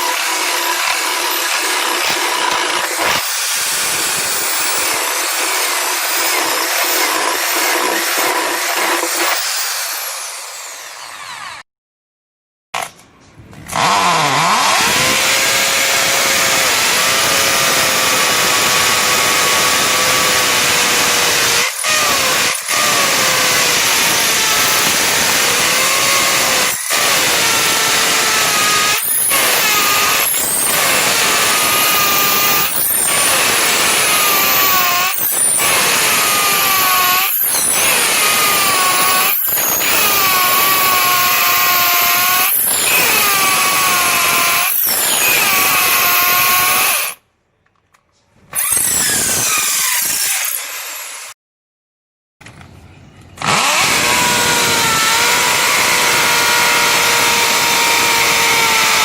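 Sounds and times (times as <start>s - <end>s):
electric drill whining: 0.0s - 11.6s, 13.7s - 47.2s, 48.6s - 51.4s, 53.4s - 59.0s.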